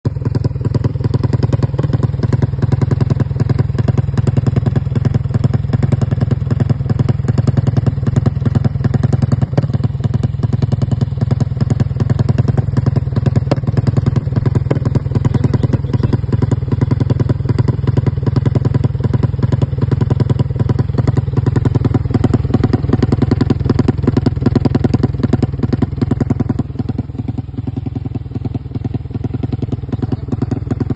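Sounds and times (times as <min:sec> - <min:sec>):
scooter engine idling: 0:00.0 - 0:30.9.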